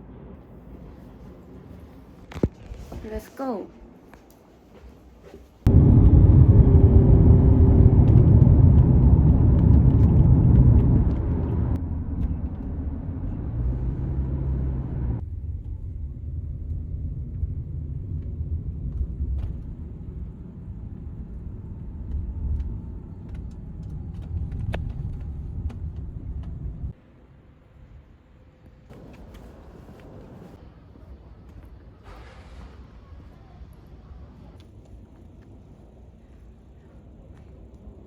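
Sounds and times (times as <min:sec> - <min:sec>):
outdoor ambience rumble: 0:00.0 - 0:38.0.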